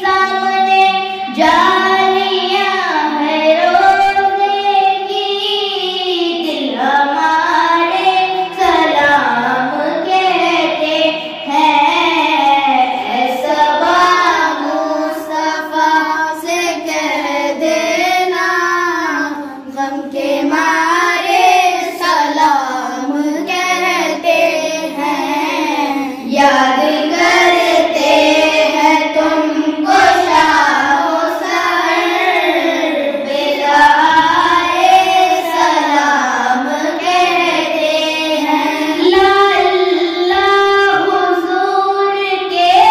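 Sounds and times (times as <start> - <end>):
boy singing: 0.0 - 42.9.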